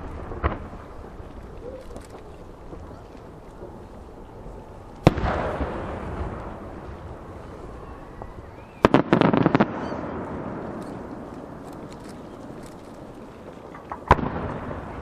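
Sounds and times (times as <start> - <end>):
rolling rumble: 0.0 - 15.0.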